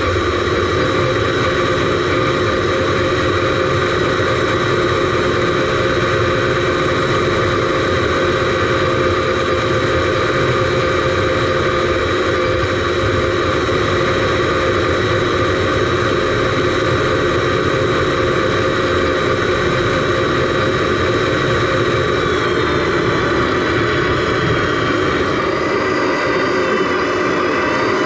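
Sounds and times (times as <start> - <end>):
model truck motor hum and whine: 0.0 - 28.0.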